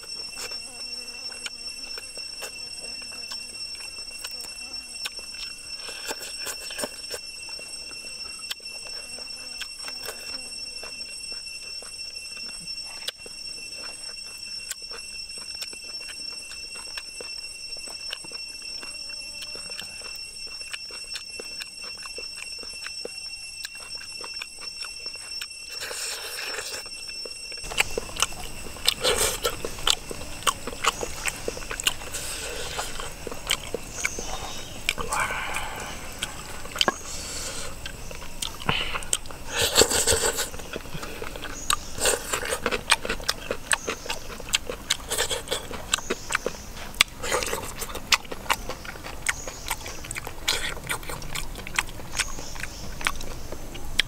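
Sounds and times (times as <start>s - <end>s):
steady high-pitched tone: 0.0s - 50.5s.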